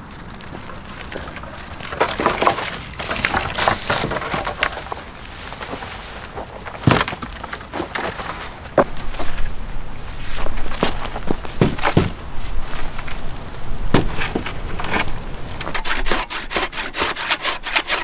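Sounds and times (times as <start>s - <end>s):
dry wood crackling and snapping: 0.0s - 18.0s.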